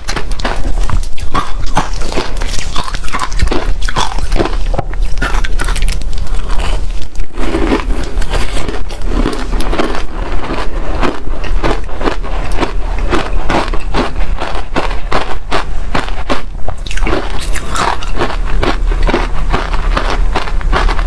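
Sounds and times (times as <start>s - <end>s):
frost being chewed: 0.0s - 21.0s.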